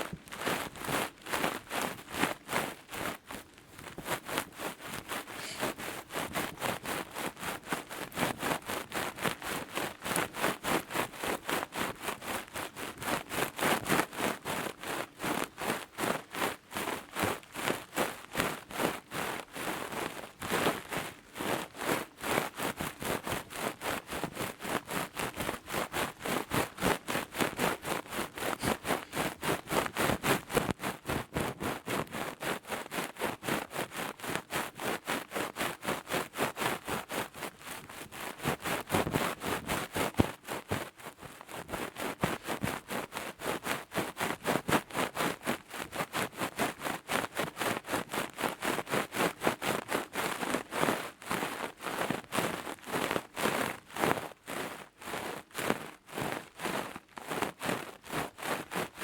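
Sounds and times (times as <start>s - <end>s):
rapid scratching close to microphone: 0.0s - 59.0s.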